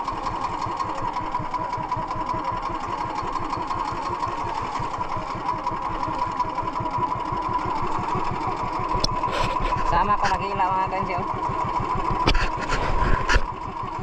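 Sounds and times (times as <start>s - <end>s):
small boat engine running: 0.0s - 14.0s.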